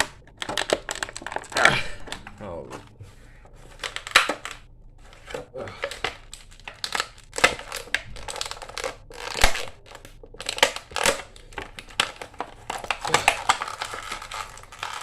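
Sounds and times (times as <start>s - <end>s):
plastic packaging crinkling: 0.0s - 2.3s, 3.5s - 15.0s.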